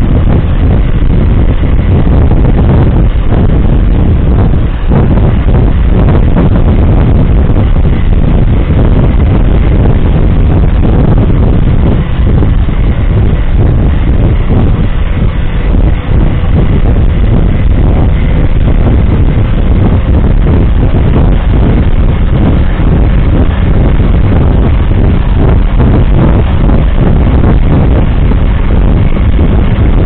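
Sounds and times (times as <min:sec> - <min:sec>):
buffeting on microphone: 0:00.0 - 0:30.0
engine and road rumble: 0:00.0 - 0:30.0.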